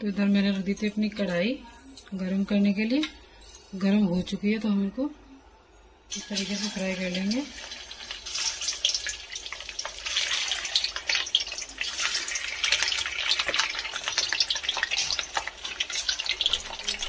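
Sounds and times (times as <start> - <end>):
food sizzling in hot oil: 0.1 - 17.0.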